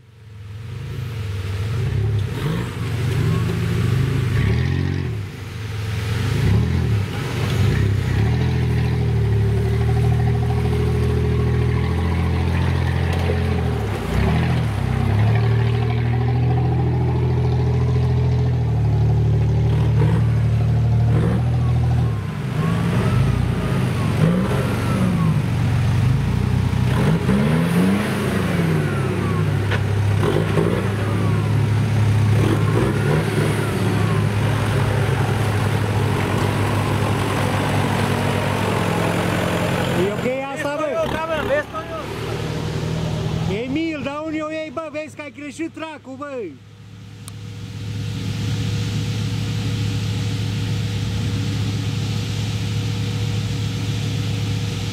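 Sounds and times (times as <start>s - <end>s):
off-road engines labouring and revving: 0.0s - 54.9s.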